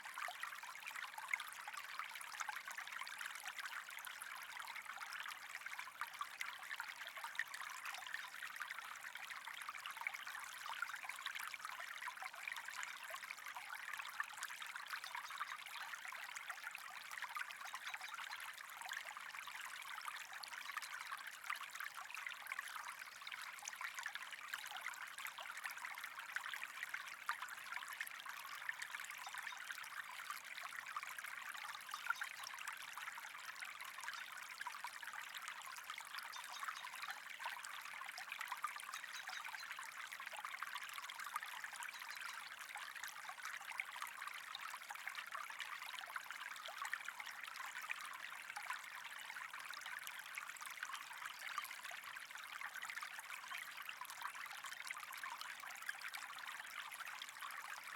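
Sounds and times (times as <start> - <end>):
trickling water: 0.0 - 57.9.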